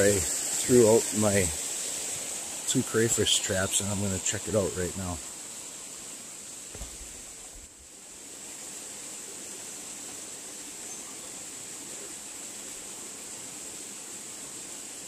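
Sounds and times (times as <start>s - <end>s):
steady outdoor background hiss: 0.0s - 15.0s.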